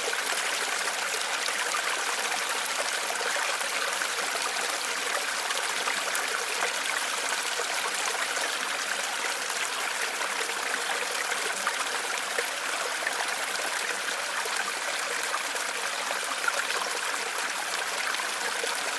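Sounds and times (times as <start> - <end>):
stream babbling over stones: 0.0 - 18.9.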